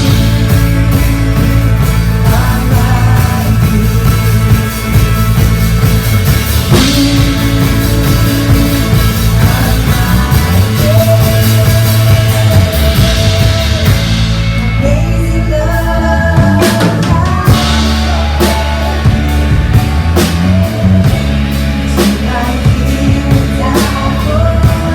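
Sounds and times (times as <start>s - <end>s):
bass: 0.0s - 24.9s
drum kit: 0.0s - 24.9s.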